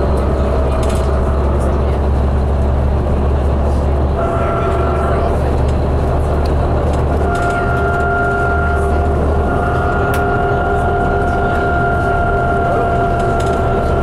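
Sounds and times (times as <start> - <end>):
bus engine drone: 0.0 - 14.0
drivetrain whine: 0.0 - 14.0.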